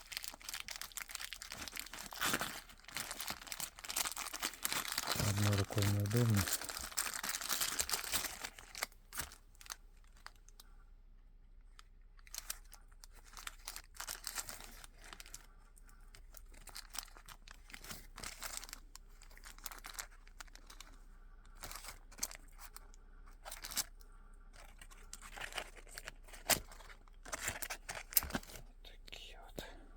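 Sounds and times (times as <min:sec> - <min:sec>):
rustling and crinkling: 0:00.0 - 0:10.8, 0:11.6 - 0:28.8.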